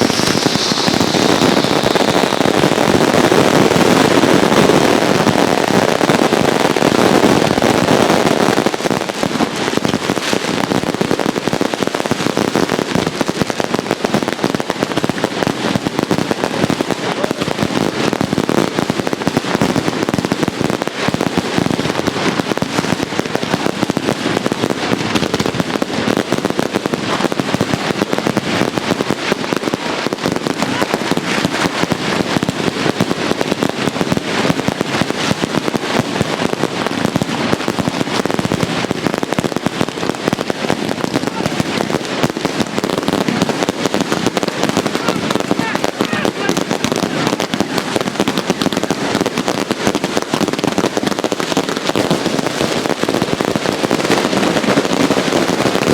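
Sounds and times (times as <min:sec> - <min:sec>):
fireworks bangs and pops: 0:00.0 - 0:55.9.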